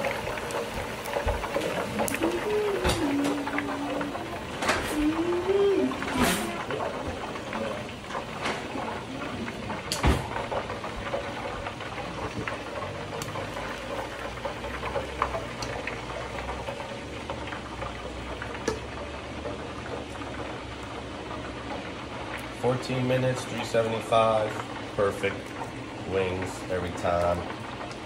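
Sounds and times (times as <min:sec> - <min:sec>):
hot oil sizzling: 0:00.0 - 0:28.0.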